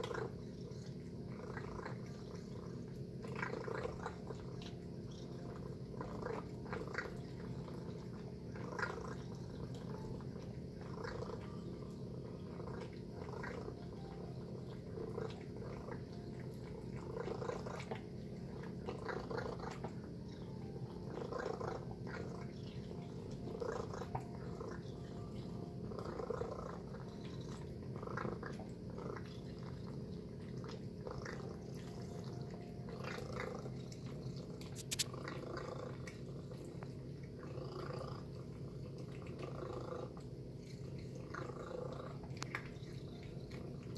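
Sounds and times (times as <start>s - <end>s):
cat chewing wet food: 0.0s - 43.9s
steady low hum: 0.0s - 43.9s.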